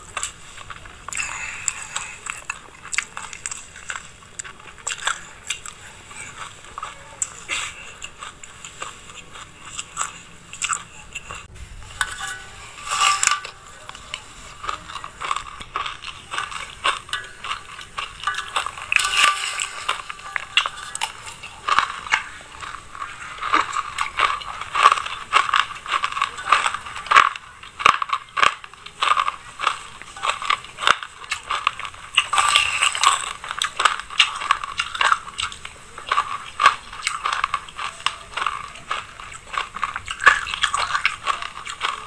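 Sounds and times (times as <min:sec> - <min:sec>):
chewing crunchy seeds: 0:00.0 - 0:42.0.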